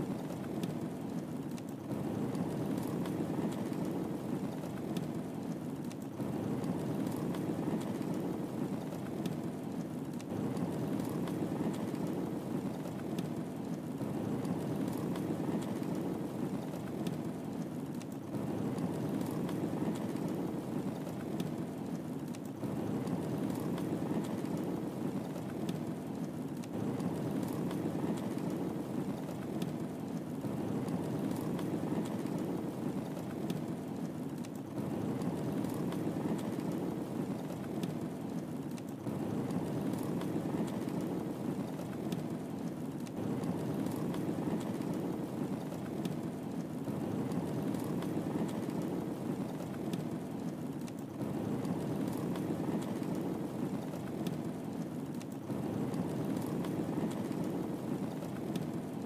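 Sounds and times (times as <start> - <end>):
fire crackling pops: 0.0 - 59.0
fire flames rushing: 0.0 - 59.0.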